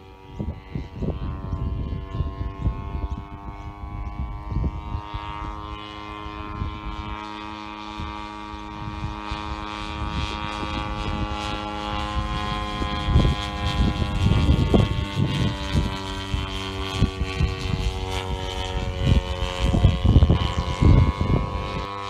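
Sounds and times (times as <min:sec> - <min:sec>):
model airplane engine in flight: 0:00.0 - 0:22.0.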